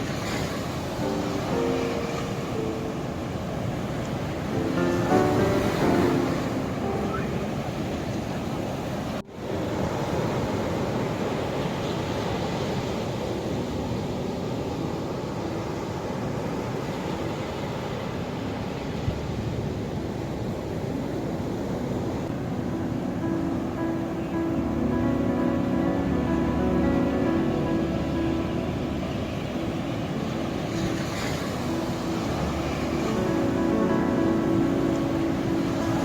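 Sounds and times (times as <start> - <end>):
ocean waves: 0.0 - 36.0.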